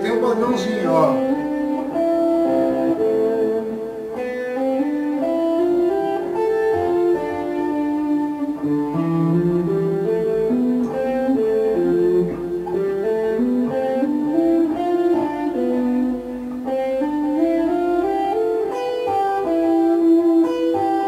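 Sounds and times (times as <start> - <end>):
electric guitar solo: 0.0 - 21.0.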